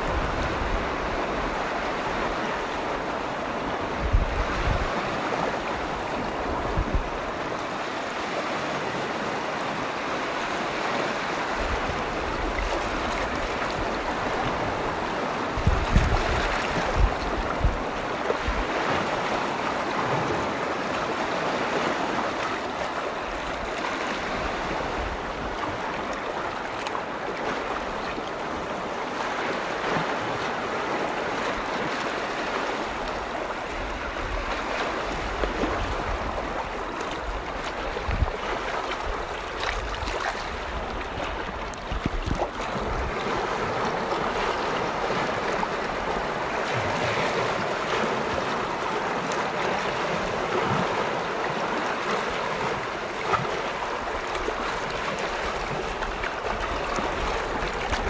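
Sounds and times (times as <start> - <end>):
waves washing on lake shore: 0.0 - 58.0
wind rumble on microphone: 0.0 - 58.0.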